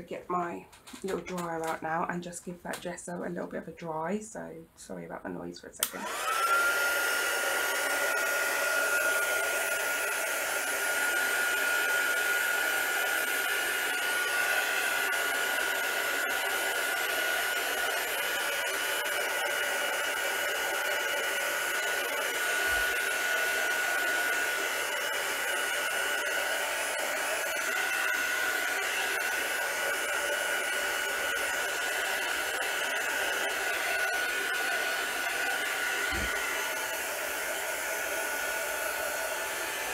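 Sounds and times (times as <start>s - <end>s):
craft dryer blowing air: 5.8s - 39.9s.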